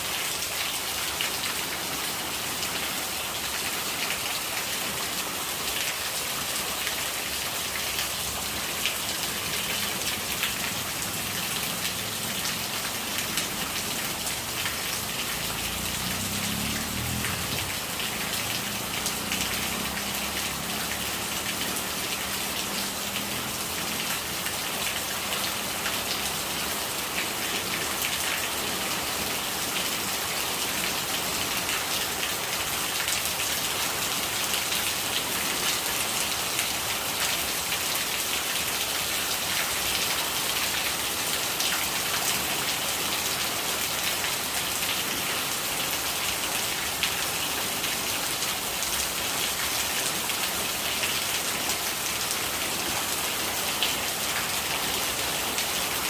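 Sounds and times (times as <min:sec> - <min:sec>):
rain drops striking a surface: 0:00.0 - 0:56.0
rainwater running and gurgling: 0:00.0 - 0:56.0.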